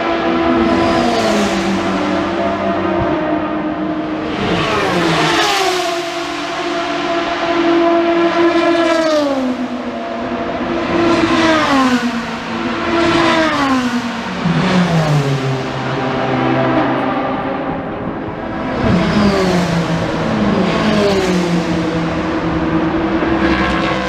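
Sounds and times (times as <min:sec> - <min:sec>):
race cars passing at full throttle: 0:00.0 - 0:24.0.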